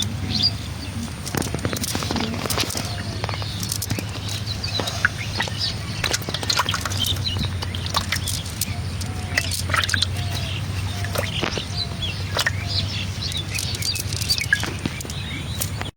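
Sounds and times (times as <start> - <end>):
small birds chirping: 0.0 - 15.9
steady low hum: 0.0 - 15.9.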